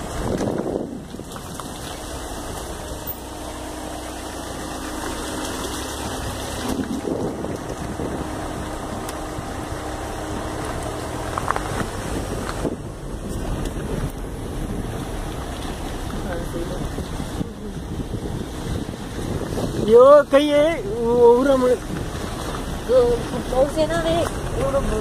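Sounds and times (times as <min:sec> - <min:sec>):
wind rushing over microphone: 0:00.0 - 0:03.0, 0:05.8 - 0:25.0
car engine hum and road noise: 0:00.0 - 0:25.0.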